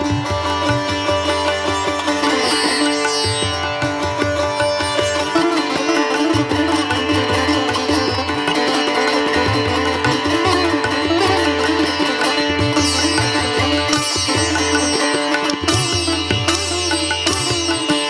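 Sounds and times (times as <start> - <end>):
plucked string melody: 0.0 - 18.0.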